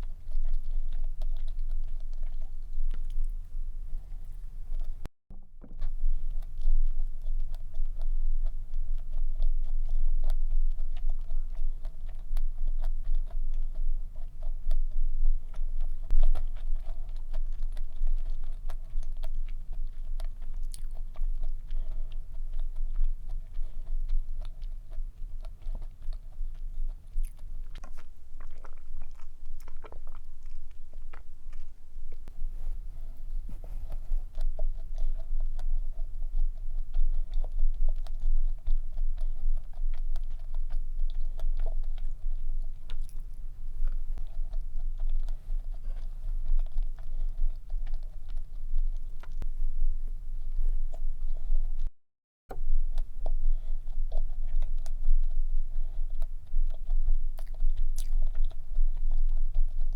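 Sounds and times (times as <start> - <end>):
chewing and crunching: 0.0 - 51.9, 52.5 - 59.9
steady low hum: 0.0 - 51.9, 52.5 - 59.9.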